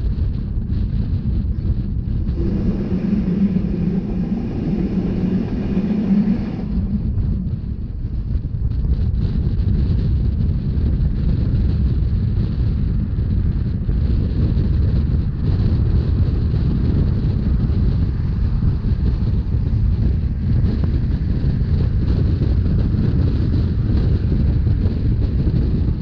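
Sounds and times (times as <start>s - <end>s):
train wheels rumbling on track: 0.0s - 26.0s
wind buffeting microphone: 0.0s - 26.0s.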